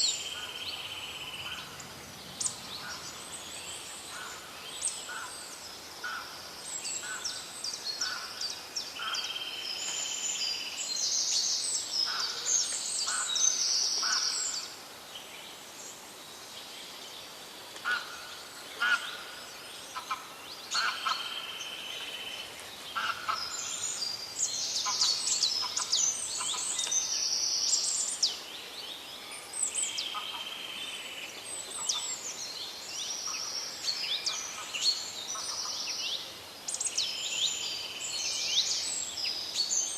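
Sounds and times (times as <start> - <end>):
wild birds chirping and trilling: 0.0 - 39.9.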